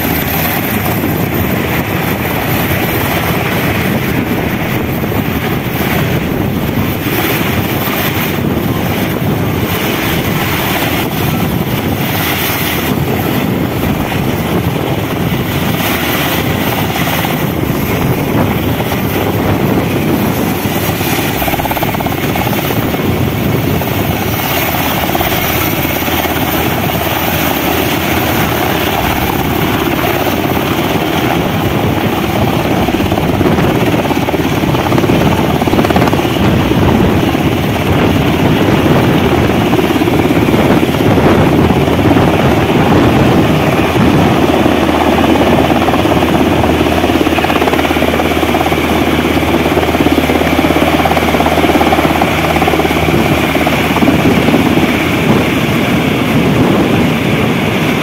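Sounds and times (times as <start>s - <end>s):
helicopter rotor and engines: 0.0s - 58.0s.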